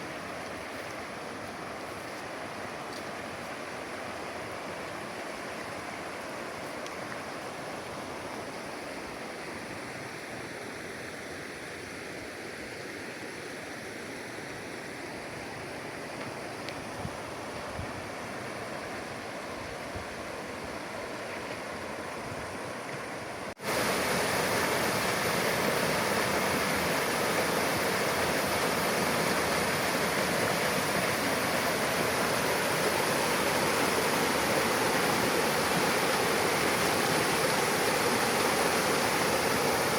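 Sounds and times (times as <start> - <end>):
river water burbling over stones: 0.0 - 11.2, 13.7 - 39.9
rush of water: 0.0 - 39.9.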